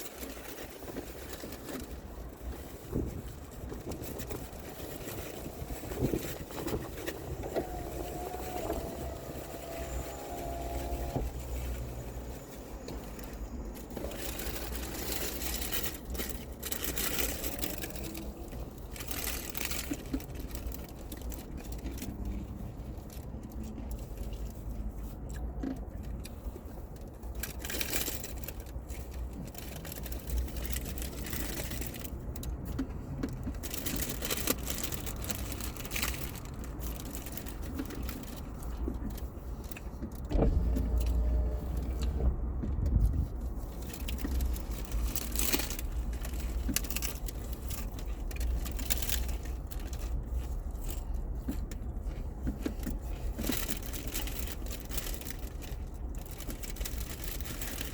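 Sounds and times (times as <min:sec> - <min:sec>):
wrappers crinkling: 0:00.0 - 0:42.6, 0:43.2 - 0:57.9.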